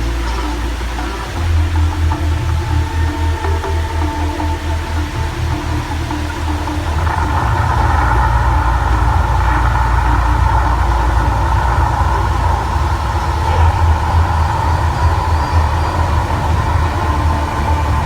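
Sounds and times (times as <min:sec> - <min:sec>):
eruption effects over speakers: 0:00.0 - 0:18.0.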